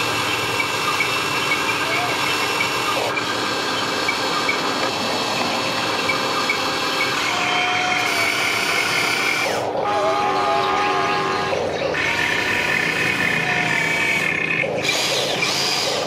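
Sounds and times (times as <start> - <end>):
toy gear motors whirring: 0.0 - 16.0.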